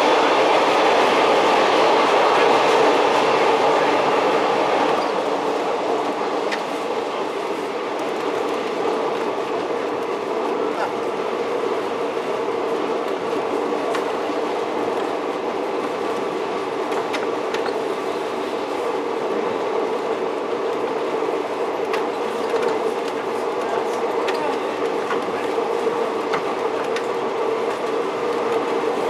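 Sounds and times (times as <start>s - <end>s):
rail motor engine and wheels rumble: 0.0s - 29.0s.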